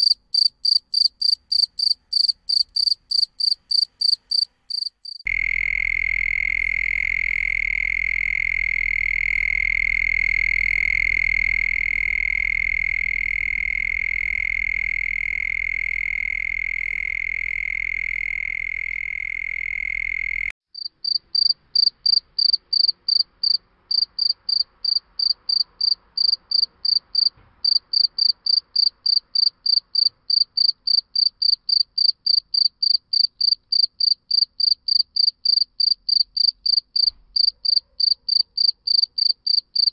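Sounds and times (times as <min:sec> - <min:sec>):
cricket chirping in pulses: 0:00.0 - 0:39.9
crickets steady trill: 0:00.0 - 0:39.9.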